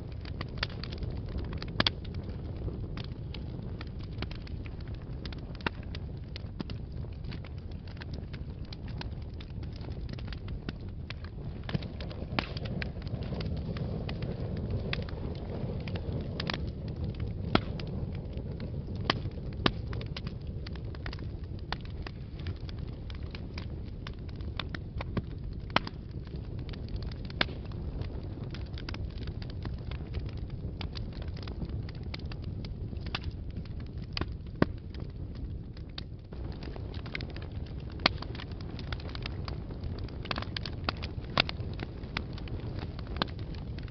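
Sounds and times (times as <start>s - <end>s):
fire crackles and pops: 0.0s - 43.9s
fire flames rumbling: 0.0s - 43.9s.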